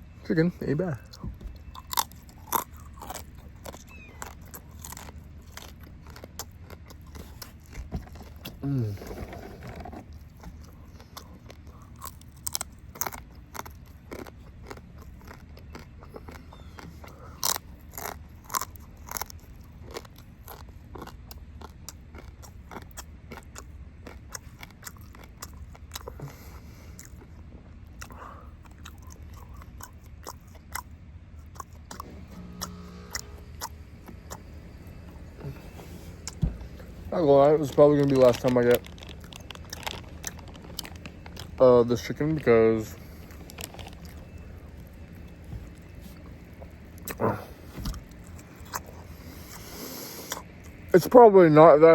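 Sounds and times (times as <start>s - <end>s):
low steady hum: 0.0s - 51.9s
person chewing crunchy food: 1.0s - 50.9s
crisp crunches: 1.1s - 27.3s, 28.0s - 50.9s.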